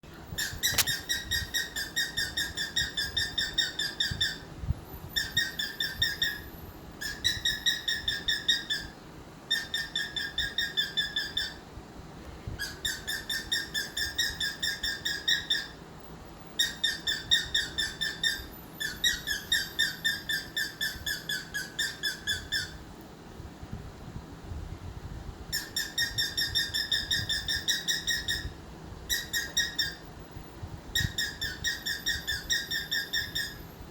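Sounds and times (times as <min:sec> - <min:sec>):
cockatiel chirping: 0:00.4 - 0:04.4, 0:05.2 - 0:11.6, 0:12.6 - 0:15.8, 0:16.6 - 0:22.8, 0:25.5 - 0:30.1, 0:30.9 - 0:33.6.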